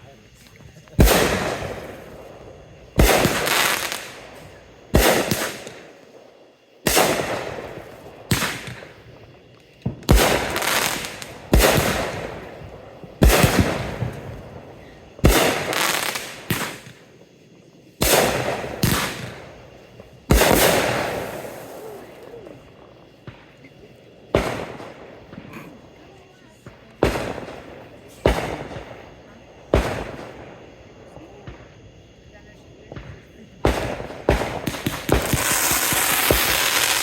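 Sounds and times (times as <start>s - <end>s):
fireworks bangs: 0.0s - 17.3s, 18.0s - 31.9s, 32.8s - 37.0s.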